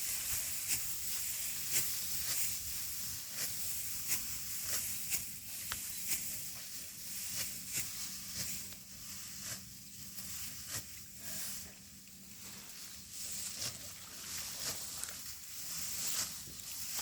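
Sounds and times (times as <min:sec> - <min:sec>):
rice stalks rustling and crunching: 0:00.0 - 0:17.0.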